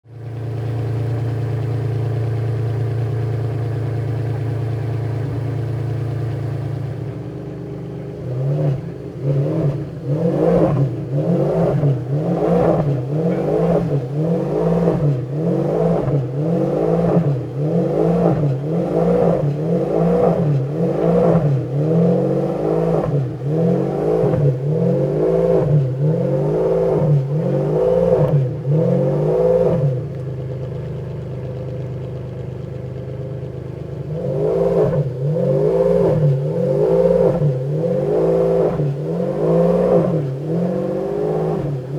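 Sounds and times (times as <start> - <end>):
car engine idling: 0.0 - 41.9
engine throttle blips: 0.0 - 41.9.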